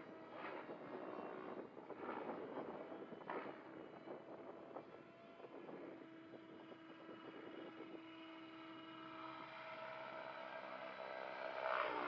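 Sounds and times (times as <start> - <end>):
distant model helicopter hum: 0.0 - 12.0.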